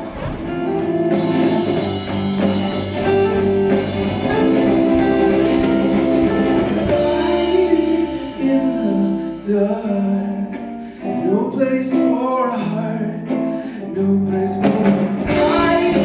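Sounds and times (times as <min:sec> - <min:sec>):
rock band playing: 0:00.0 - 0:11.4, 0:14.4 - 0:16.0.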